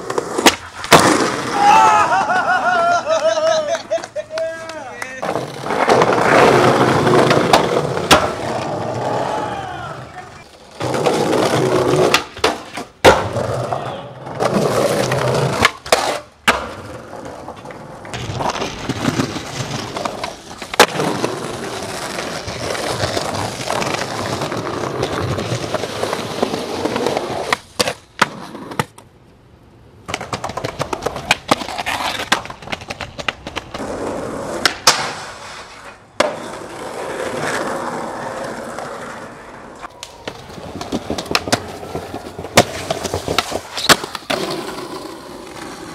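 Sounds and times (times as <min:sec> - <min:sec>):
skateboard popping and landing: 0:00.0 - 0:01.7, 0:03.8 - 0:29.1, 0:30.0 - 0:45.9
skateboard wheels rolling on pavement: 0:00.0 - 0:45.9.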